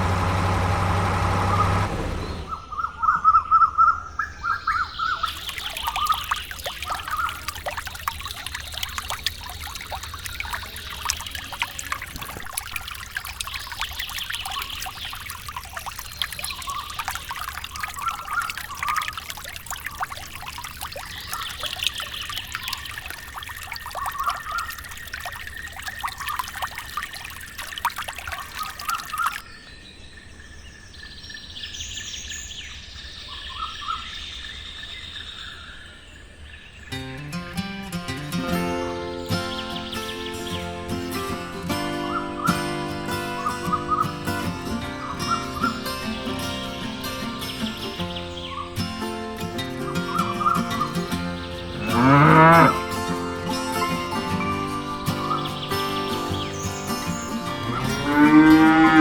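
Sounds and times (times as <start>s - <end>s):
water trickling and pouring: 0.0s - 2.7s, 5.0s - 29.6s, 36.4s - 59.0s
birds chirping: 0.0s - 59.0s.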